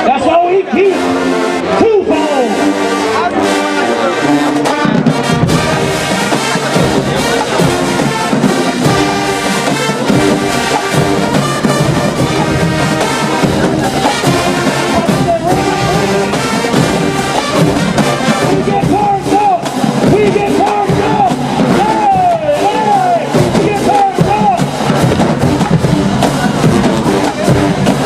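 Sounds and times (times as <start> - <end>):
brass chords: 0.0 - 28.0
marching band playing: 0.0 - 28.0
percussion: 0.0 - 28.0.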